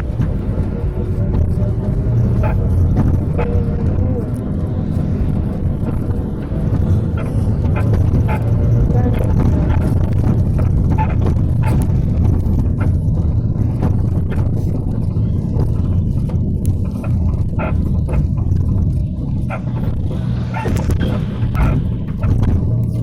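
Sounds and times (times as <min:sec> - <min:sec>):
engine and tyre rumble: 0:00.0 - 0:23.0
vehicle body rattles and knocks: 0:00.0 - 0:23.0.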